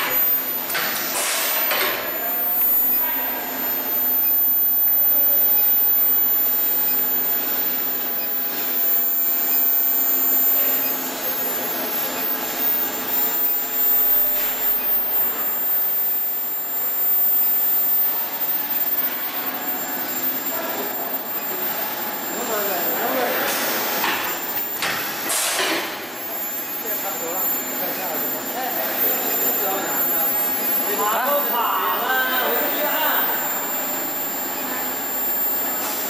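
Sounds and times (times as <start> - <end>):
high-pitched whine: 0.0 - 36.0
machine whir: 0.0 - 36.0.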